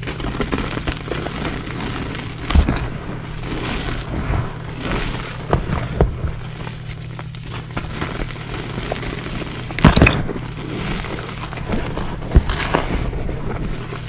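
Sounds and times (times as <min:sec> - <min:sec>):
chalk crumbling and crunching: 0:00.0 - 0:14.0
steady low hum: 0:00.0 - 0:14.0.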